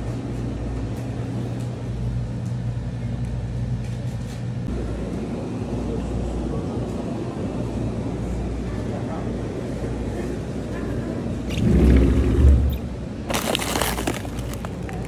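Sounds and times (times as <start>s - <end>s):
refrigeration hum: 0.0s - 15.0s.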